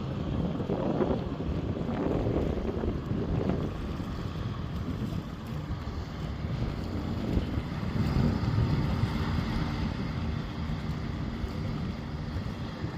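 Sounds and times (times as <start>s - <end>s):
harbour ambience: 0.0s - 12.9s
wind buffeting microphone: 0.0s - 12.9s.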